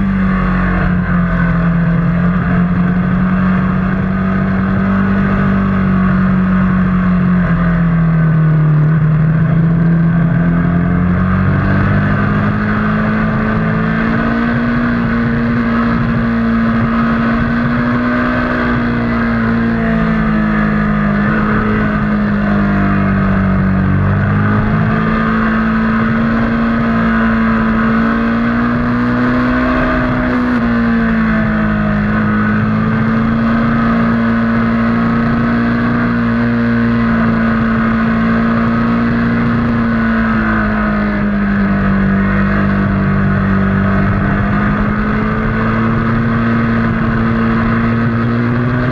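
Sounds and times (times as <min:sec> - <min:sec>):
motorcycle engine under load: 0:00.0 - 0:48.9.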